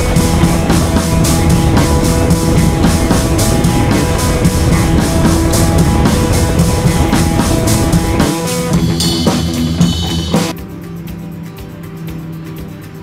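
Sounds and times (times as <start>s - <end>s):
rock music with drums and guitar: 0.0s - 13.0s.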